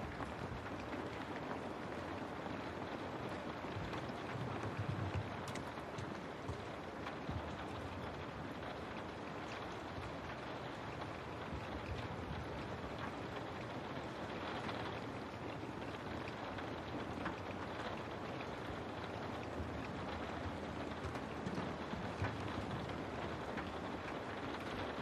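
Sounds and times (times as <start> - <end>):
rain hissing: 0.0 - 25.0.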